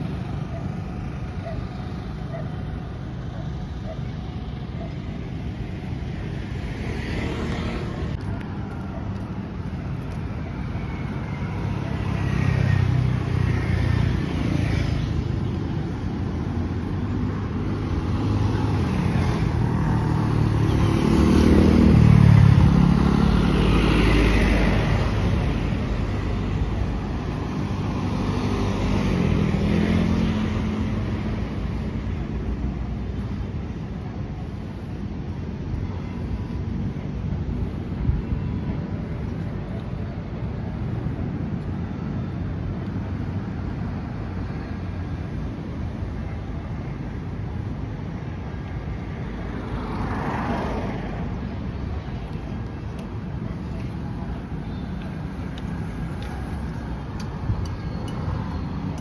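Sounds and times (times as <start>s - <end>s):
background traffic noise: 0.0s - 59.0s
cars and motorcycles passing: 0.0s - 59.0s.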